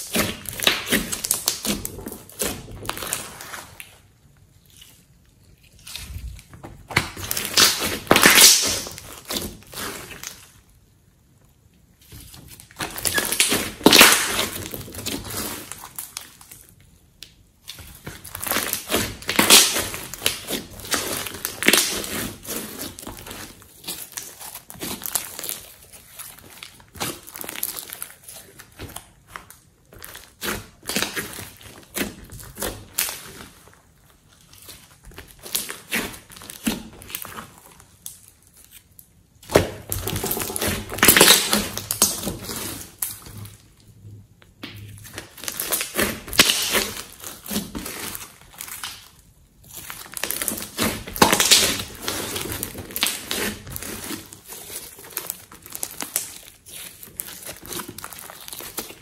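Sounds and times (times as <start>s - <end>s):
slime squelching and crackling: 0.0s - 59.0s.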